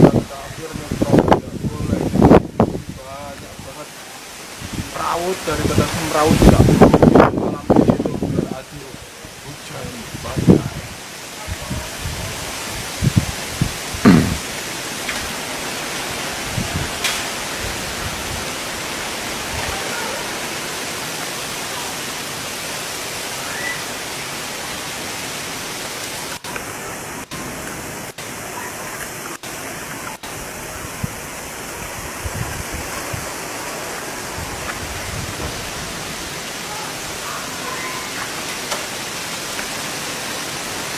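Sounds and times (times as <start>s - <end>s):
heavy rain pouring: 0.0s - 40.9s
wind gusts on microphone: 0.0s - 40.9s.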